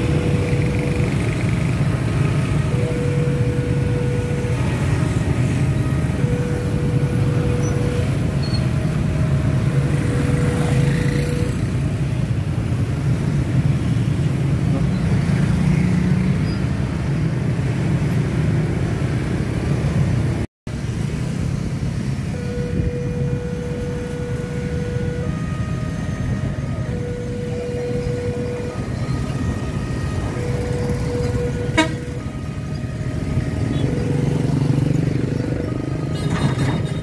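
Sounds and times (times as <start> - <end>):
motorbike engines passing: 0.0 - 37.0.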